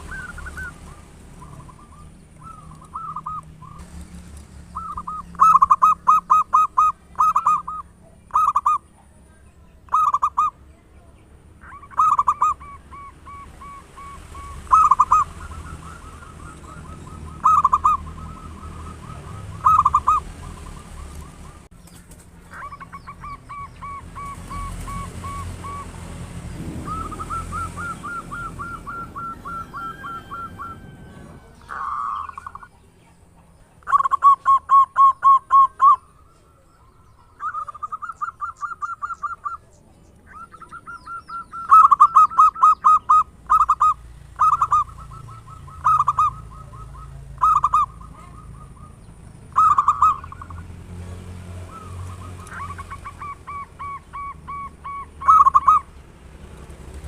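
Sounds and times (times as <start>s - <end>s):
dove cooing: 0.0s - 10.8s, 11.5s - 21.7s, 22.4s - 56.0s.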